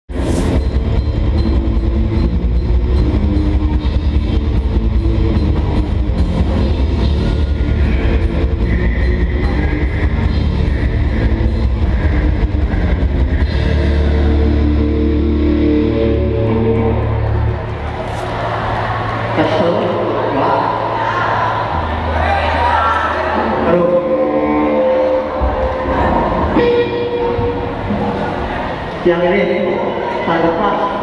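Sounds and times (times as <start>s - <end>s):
distorted electric guitar: 0.1s - 29.1s.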